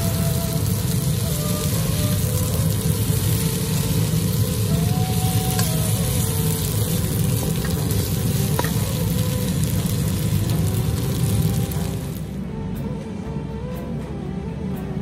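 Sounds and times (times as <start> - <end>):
food sizzling in a wok: 0.0 - 12.4.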